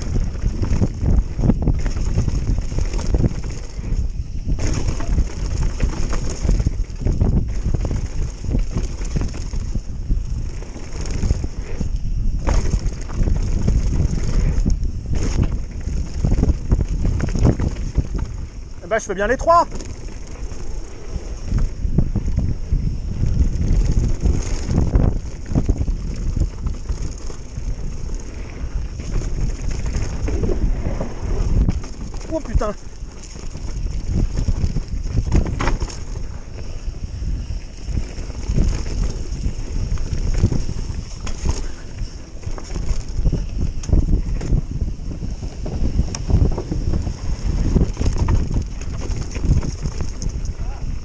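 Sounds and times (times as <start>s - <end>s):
bike knocks and rattles: 0.0s - 51.0s
tyres on loose dirt: 0.0s - 51.0s
wind buffeting microphone: 0.0s - 51.0s.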